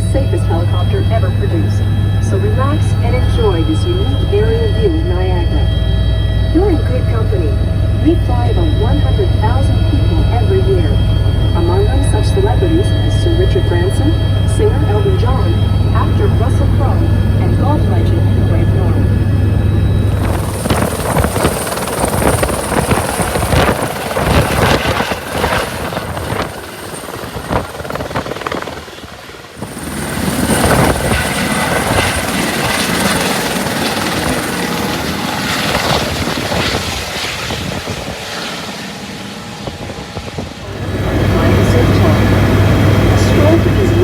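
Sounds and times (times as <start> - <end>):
helicopter rotor and engine: 0.0 - 44.0.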